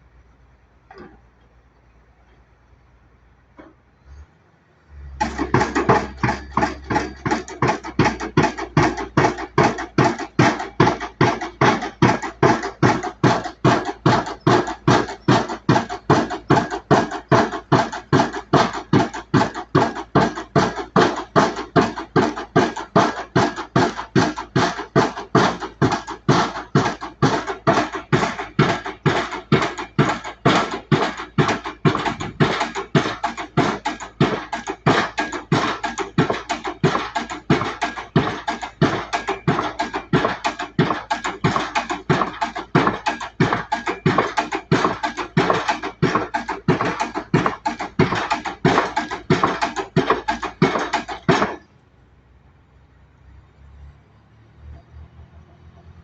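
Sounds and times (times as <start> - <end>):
pile driver hammer striking: 5.1 - 51.7.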